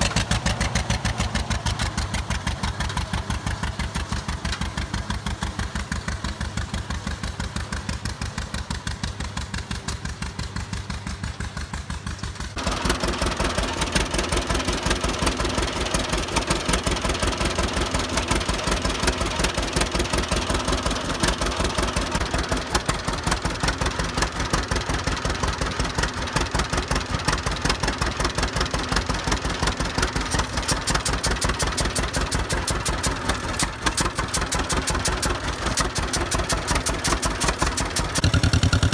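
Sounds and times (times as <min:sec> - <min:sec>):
old tractor engine idling: 0:00.0 - 0:38.9.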